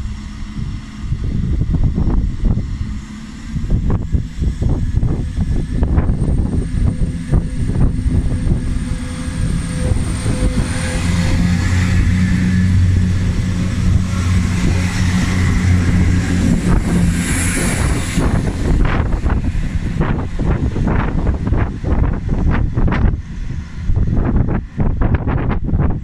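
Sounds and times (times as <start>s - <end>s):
diesel train engine drone: 0.0s - 26.0s
train wheels rumbling: 0.0s - 26.0s
wind buffeting microphone: 0.0s - 26.0s.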